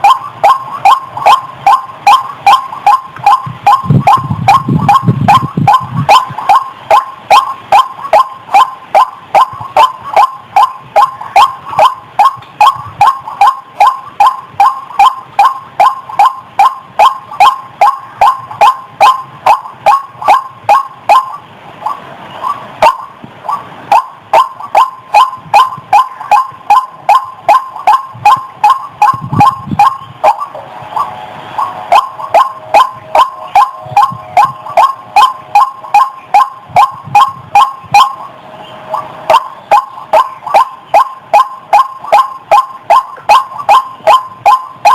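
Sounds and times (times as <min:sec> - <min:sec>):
waterhen harsh wak call: 0:00.0 - 0:44.9.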